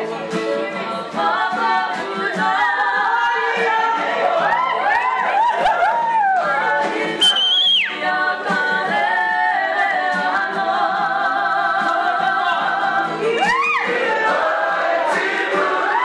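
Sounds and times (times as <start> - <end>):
group singing in harmony: 0.0 - 16.0.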